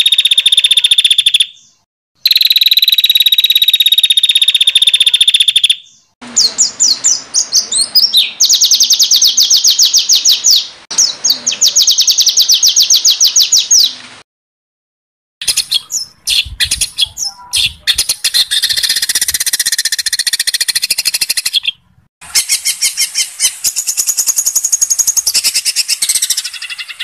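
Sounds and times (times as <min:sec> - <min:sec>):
songbird trilling: 0:00.0 - 0:14.0, 0:15.4 - 0:27.0
varied bird calls: 0:00.0 - 0:14.0, 0:15.4 - 0:27.0.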